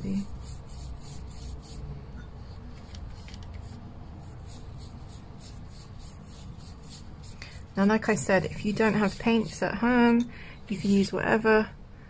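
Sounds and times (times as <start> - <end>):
paintbrush brushing on paper: 0.0 - 9.9
steady low hum: 0.0 - 12.0.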